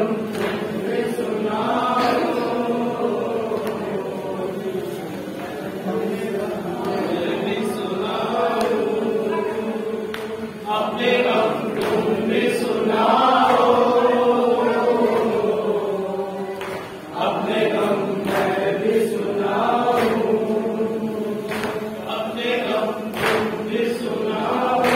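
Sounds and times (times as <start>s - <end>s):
men chanting a mournful refrain: 0.0s - 24.9s.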